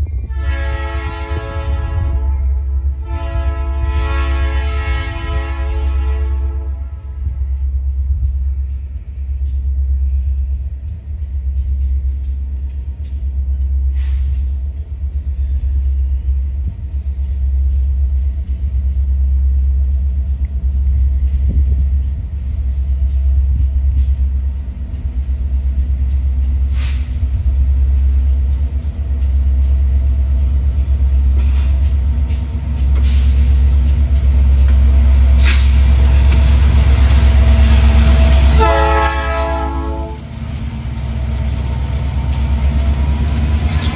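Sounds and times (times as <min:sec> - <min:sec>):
diesel locomotive engine rumble: 0:00.0 - 0:43.9.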